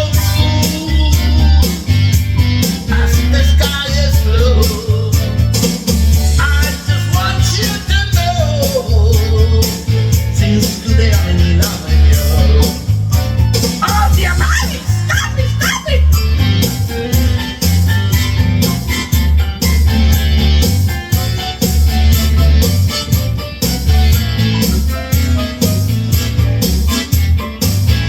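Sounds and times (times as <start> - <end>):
blues-rock song with guitar and bass: 0.0 - 28.0.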